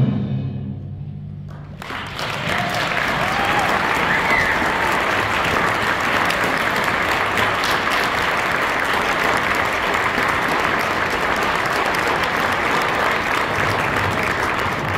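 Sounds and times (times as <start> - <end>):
audience applause: 1.5 - 14.9.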